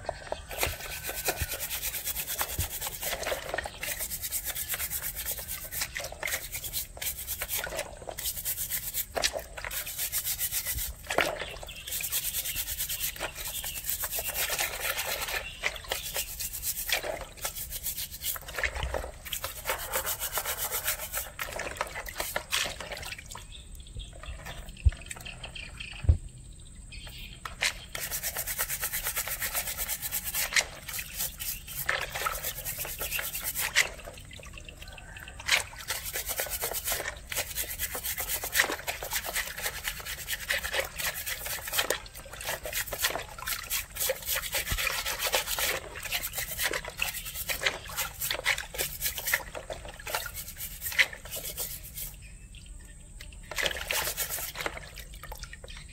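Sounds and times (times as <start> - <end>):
water splashing and trickling: 0.0 - 55.9
scrub brush scrubbing shells: 0.2 - 23.1, 27.5 - 52.2, 53.4 - 55.1.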